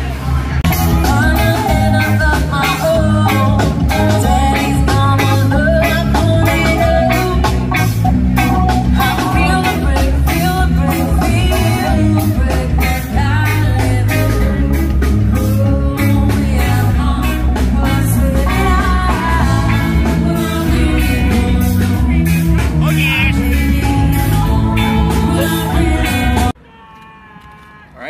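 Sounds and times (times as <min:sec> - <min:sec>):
live rock band playing: 0:00.0 - 0:26.6
lead singer: 0:00.7 - 0:26.6.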